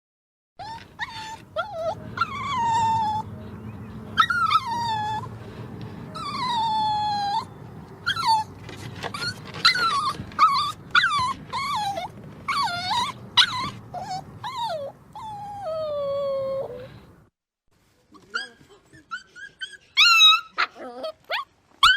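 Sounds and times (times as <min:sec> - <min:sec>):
puppy whining and yelping: 0:00.6 - 0:03.4, 0:04.2 - 0:05.4, 0:06.2 - 0:17.0, 0:18.3 - 0:21.9.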